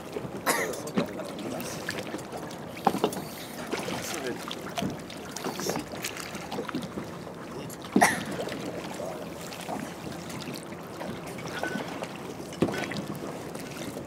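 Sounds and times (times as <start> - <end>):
sea water sloshing and splashing: 0.0 - 14.0.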